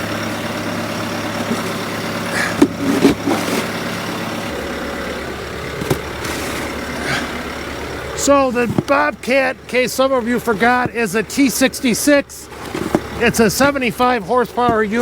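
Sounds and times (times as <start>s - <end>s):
diesel engine running: 0.0s - 15.0s
short clunks: 0.0s - 15.0s.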